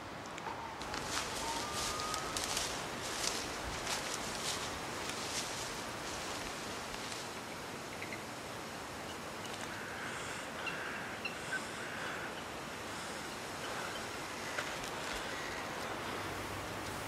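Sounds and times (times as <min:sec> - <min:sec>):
wind through bare trees: 0:00.0 - 0:17.0.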